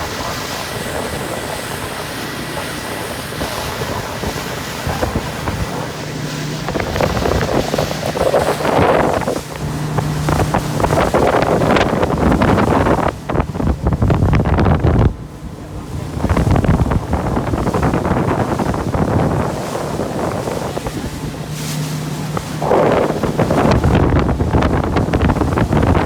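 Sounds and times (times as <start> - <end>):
motorboat engine hum: 0.0 - 26.0
rushing water: 0.0 - 26.0
wind buffeting microphone: 0.0 - 26.0.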